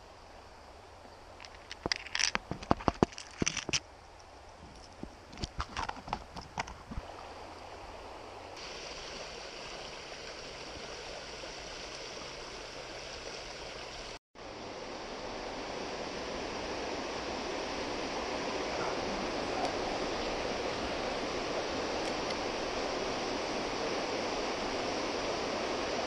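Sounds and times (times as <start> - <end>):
river water running over stones: 1.3 - 26.0.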